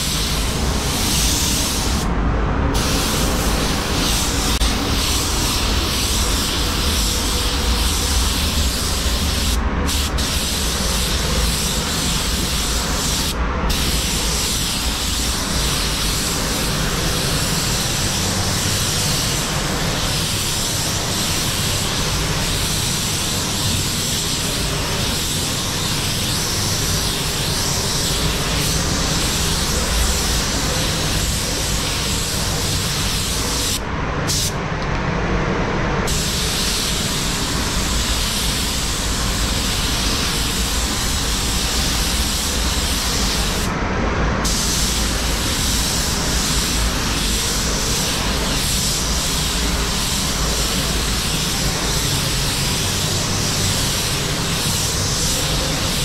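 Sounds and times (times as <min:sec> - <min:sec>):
paint spray gun hissing: 0:00.0 - 0:02.1, 0:02.8 - 0:34.6, 0:36.1 - 0:43.7, 0:44.4 - 0:56.0
booth air flow: 0:00.0 - 0:56.0.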